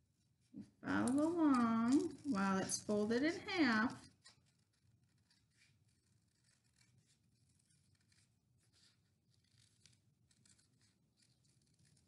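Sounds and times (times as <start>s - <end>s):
scissors snipping paper: 0.6s - 12.0s.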